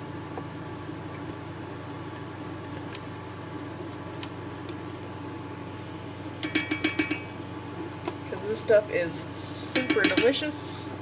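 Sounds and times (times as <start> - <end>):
low kitchen hum: 0.0 - 11.0.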